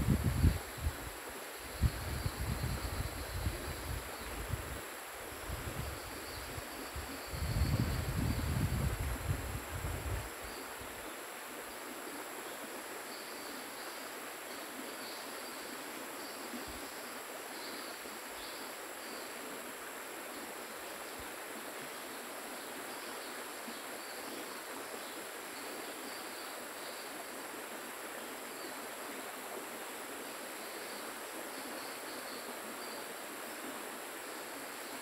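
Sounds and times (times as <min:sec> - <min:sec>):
outdoor hiss: 0:00.0 - 0:35.0.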